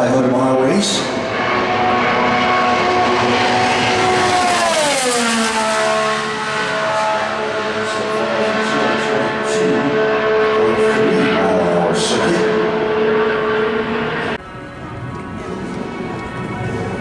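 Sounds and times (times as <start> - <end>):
race car passing by: 0.0 - 17.0.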